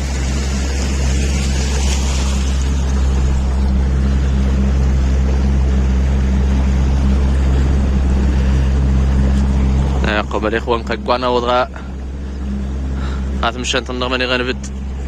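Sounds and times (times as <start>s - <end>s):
motorboat engine humming: 0.0s - 15.0s
water noise: 0.0s - 15.0s.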